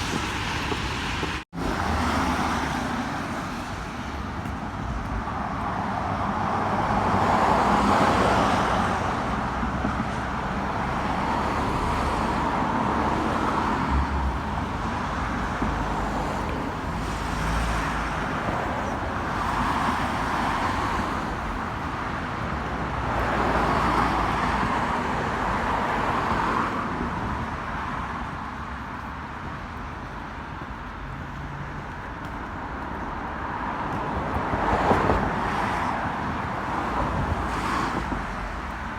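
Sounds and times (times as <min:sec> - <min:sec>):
cars passing: 0:00.0 - 0:38.9
low steady traffic rumble: 0:00.0 - 0:38.9.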